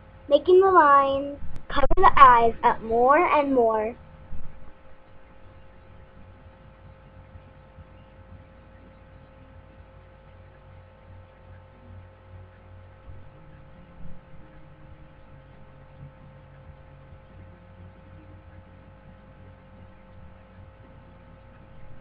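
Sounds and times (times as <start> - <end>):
faint low rumble: 0.0 - 22.0
steady electrical hum: 0.0 - 22.0.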